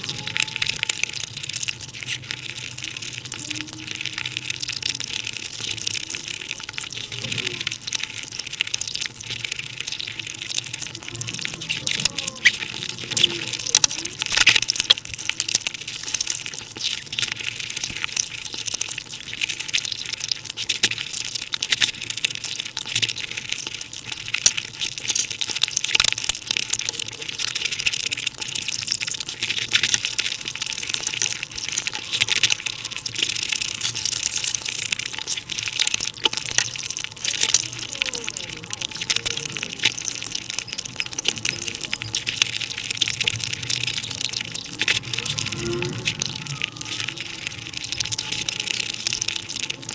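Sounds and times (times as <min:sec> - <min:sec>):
sped-up chewing and smacking: 0:00.0 - 0:49.9.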